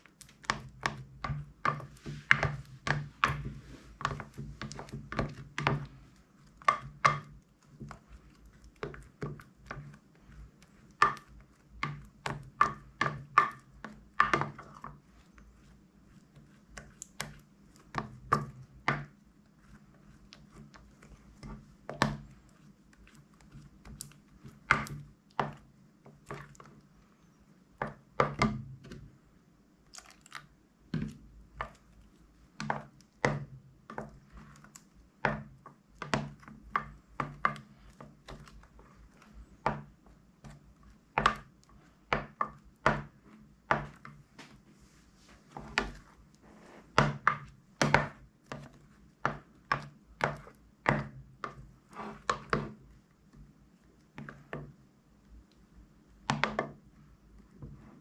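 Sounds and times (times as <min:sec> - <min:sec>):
spoon stirring thick slime: 0:00.0 - 0:58.0.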